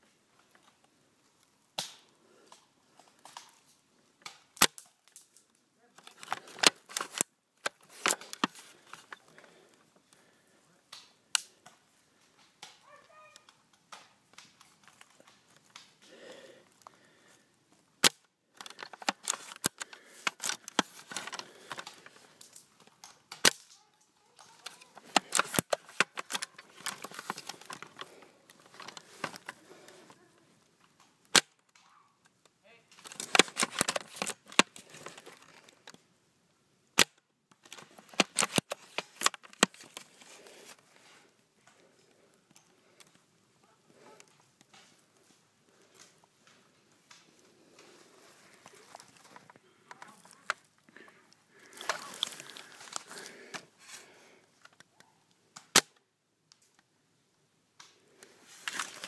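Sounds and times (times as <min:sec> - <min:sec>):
rustling: 0:00.0 - 0:36.1, 0:37.5 - 0:55.8, 0:57.8 - 0:59.0.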